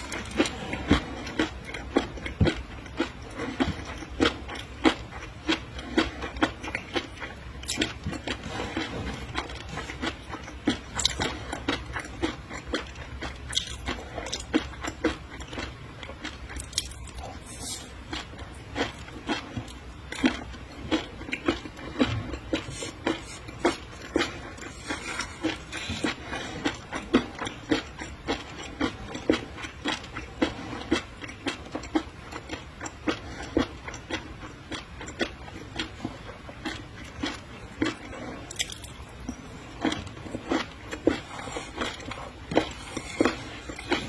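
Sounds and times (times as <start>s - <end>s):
wet chewing and mouth clicks: 0.0s - 44.0s.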